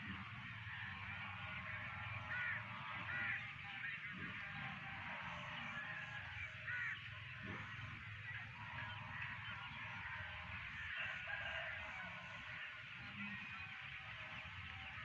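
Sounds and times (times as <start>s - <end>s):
birds chirping: 0.0s - 15.0s
loud bird call: 0.6s - 15.0s.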